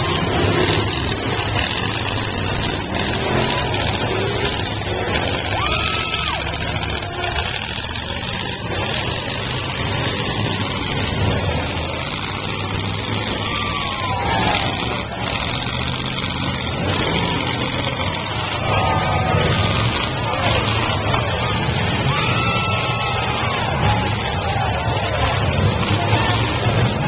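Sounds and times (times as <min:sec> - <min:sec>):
car engines revving: 0:00.0 - 0:27.0
rising and falling engine whines: 0:00.0 - 0:27.0.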